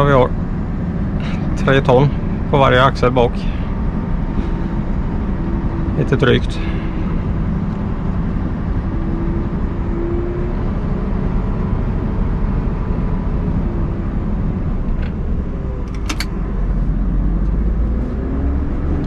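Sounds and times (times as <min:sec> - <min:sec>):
truck diesel engine running: 0:00.0 - 0:18.9.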